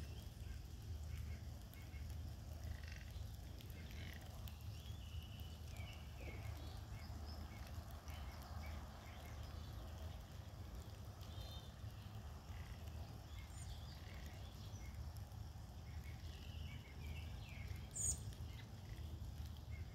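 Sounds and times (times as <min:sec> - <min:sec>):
low steady rumble: 0:00.0 - 0:19.9.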